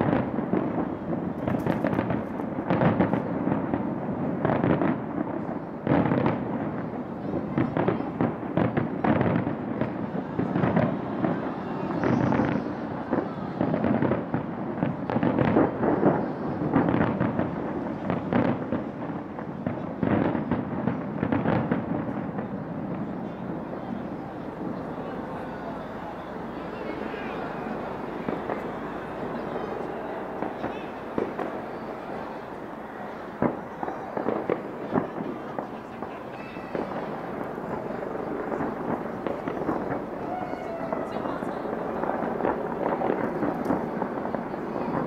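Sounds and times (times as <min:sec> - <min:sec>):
fireworks bangs and booms: 0:00.0 - 0:45.0
fireworks crackling: 0:00.0 - 0:45.0.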